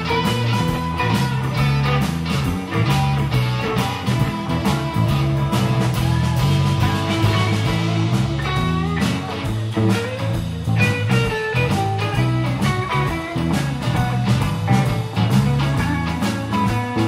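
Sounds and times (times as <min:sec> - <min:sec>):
blues band playing: 0:00.0 - 0:17.0
electric guitar lines: 0:00.0 - 0:17.0.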